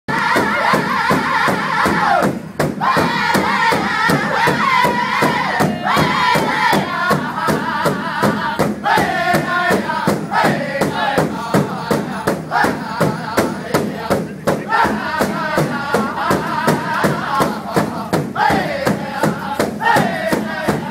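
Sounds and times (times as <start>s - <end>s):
group singing in high voices: 0.1s - 20.9s
big drum steady beat: 0.2s - 20.9s.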